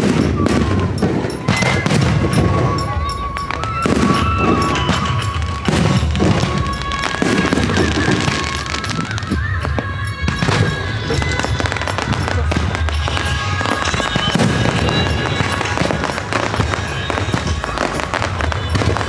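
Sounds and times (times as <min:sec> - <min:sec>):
fireworks booming and crackling: 0:00.0 - 0:19.0
music with long held notes: 0:00.0 - 0:19.0.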